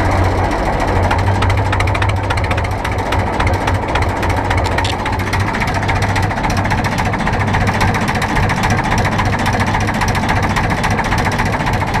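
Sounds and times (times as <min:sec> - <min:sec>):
diesel engine knocking: 0:00.0 - 0:12.0.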